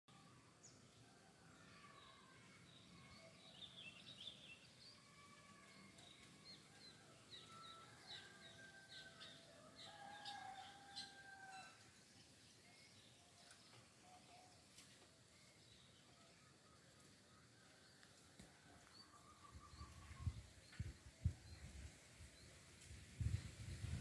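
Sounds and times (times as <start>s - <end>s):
faint birds chirping: 0.1s - 24.0s.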